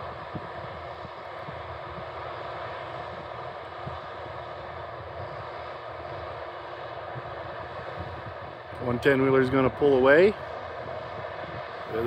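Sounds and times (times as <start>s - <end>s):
harvesting machinery droning: 0.0s - 12.0s.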